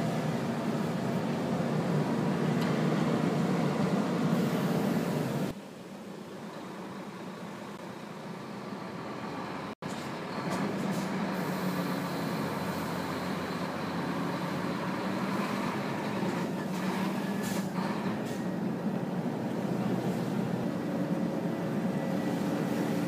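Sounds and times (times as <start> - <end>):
truck engine drone: 0.0 - 23.0.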